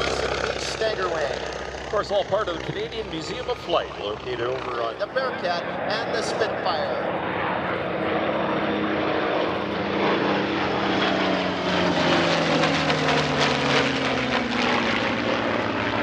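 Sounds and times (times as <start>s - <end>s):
propeller plane flying past: 0.0s - 16.0s.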